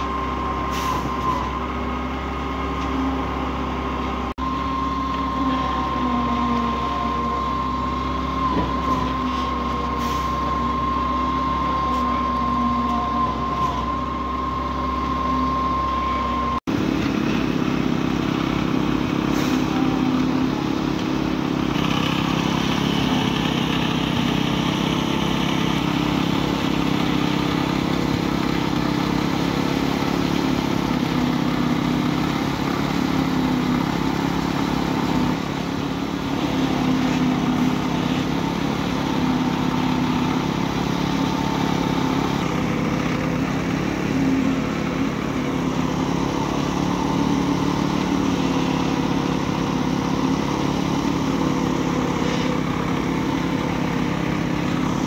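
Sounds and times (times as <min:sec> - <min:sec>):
machinery engine drone: 0:00.0 - 0:55.0.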